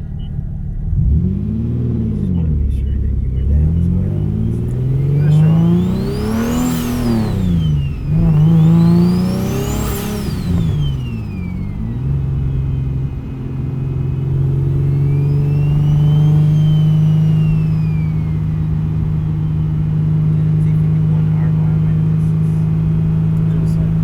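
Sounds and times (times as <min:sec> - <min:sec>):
car engine revving: 0:00.0 - 0:24.0
turbo spool whine: 0:03.5 - 0:24.0.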